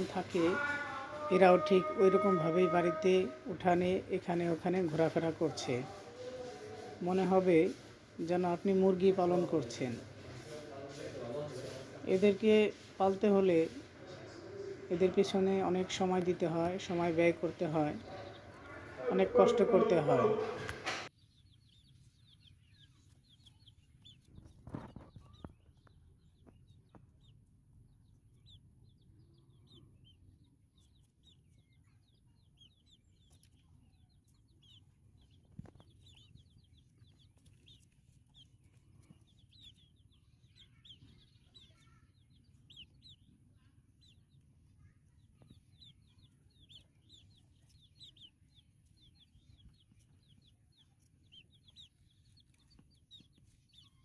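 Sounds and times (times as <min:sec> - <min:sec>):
bird chicks peeping: 0:00.0 - 0:54.0.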